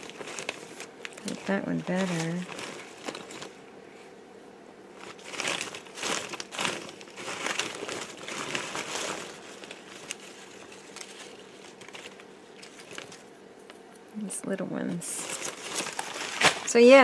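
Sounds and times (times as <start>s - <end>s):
plastic bag crinkling and rustling: 0.0s - 4.1s, 4.9s - 14.0s, 15.0s - 17.0s.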